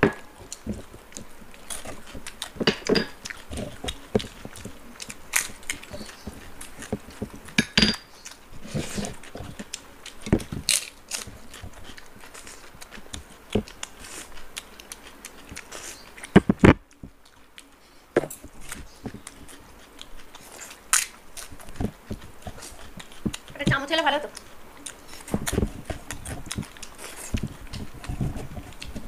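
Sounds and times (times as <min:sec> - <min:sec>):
lip smacks and chewing: 0:00.1 - 0:29.0.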